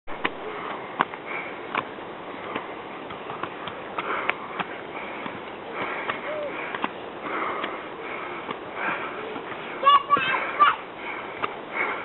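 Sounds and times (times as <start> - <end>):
slipper footsteps on steps: 0.1 - 10.4
heavy breathing: 0.4 - 12.0.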